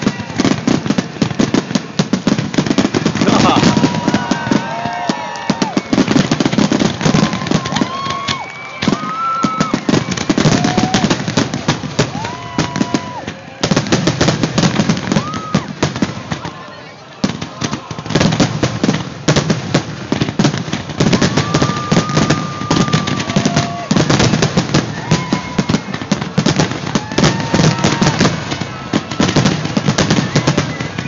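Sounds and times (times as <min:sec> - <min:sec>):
fireworks whistles: 0:00.0 - 0:16.4, 0:20.4 - 0:31.0
fireworks banging and crackling: 0:00.0 - 0:31.0.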